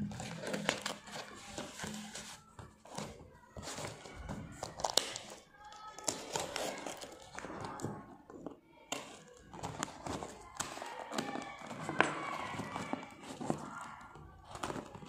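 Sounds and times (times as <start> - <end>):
scraping and crinkling cardboard: 0.0 - 5.4, 6.0 - 15.0.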